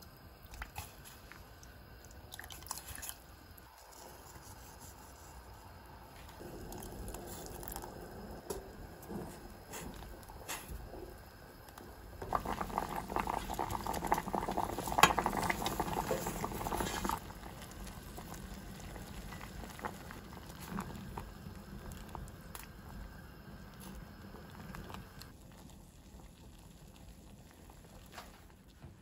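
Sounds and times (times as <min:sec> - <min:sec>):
loud crackling sizzle: 0:00.0 - 0:02.4, 0:03.1 - 0:29.0
faint cooking hiss: 0:00.0 - 0:29.0.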